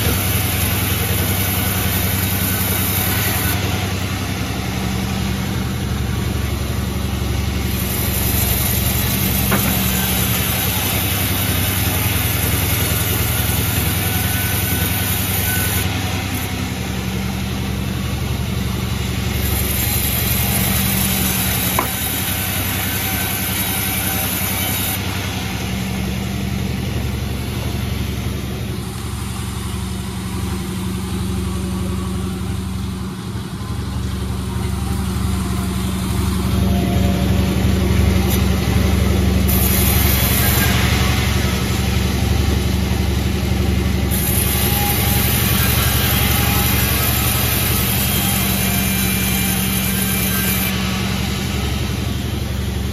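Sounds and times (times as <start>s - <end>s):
low motor hum: 0.0s - 15.7s, 16.3s - 44.2s.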